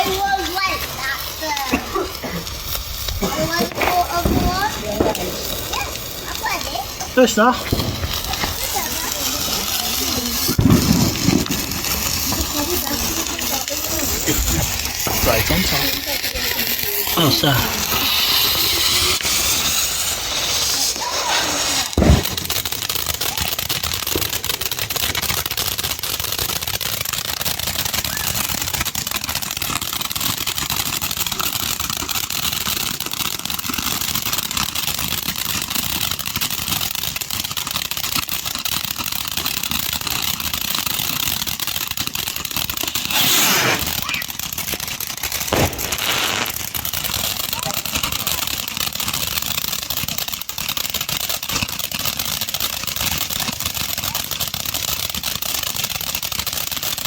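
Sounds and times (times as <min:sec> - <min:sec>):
firework bangs: 0:00.0 - 0:57.0
firework hissing rush: 0:00.0 - 0:57.0
fireworks crackling: 0:00.0 - 0:57.0.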